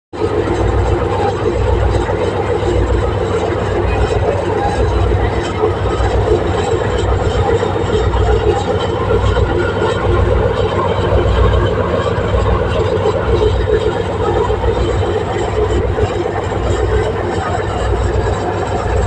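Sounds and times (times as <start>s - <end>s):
train running noise: 0.1s - 19.0s.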